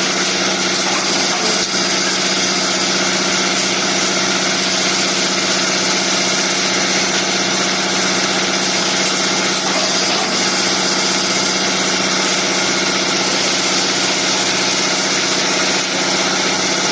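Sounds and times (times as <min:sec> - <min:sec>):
milling machine motor hum: 0:00.0 - 0:16.9.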